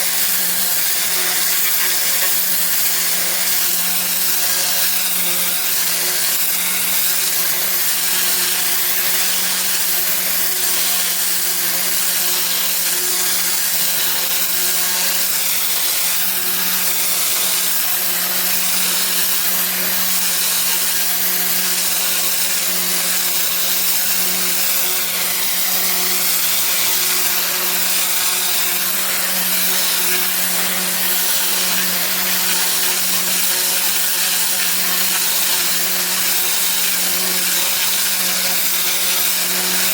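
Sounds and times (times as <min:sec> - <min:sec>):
pressure washer spraying paving: 0:00.0 - 0:39.9.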